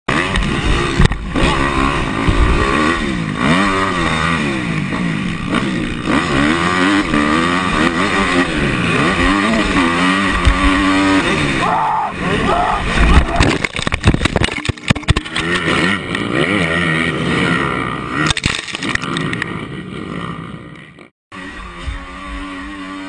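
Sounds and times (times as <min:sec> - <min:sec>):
dirt bike engine revving: 0:00.1 - 0:23.0.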